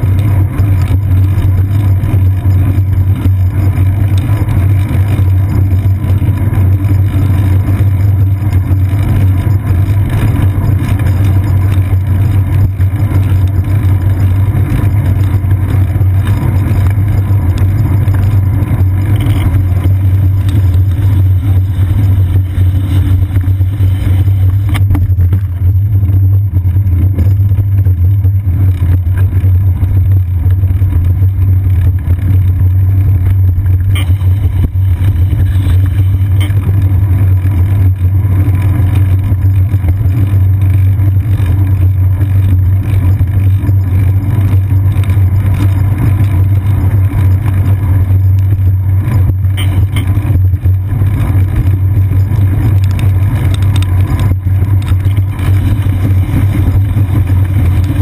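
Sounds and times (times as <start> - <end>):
road vibration and wind rumble: 0.0 - 58.0.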